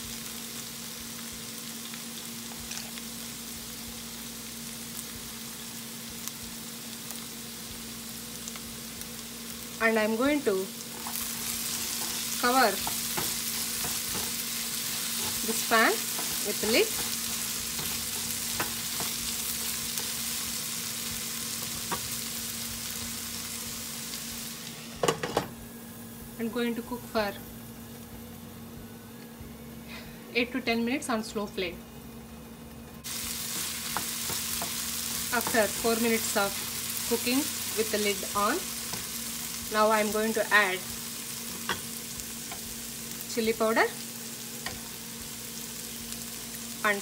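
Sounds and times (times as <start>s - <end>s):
vegetables sizzling in frying pan: 0.0s - 28.7s, 29.9s - 47.0s
steady low hum: 2.2s - 47.0s.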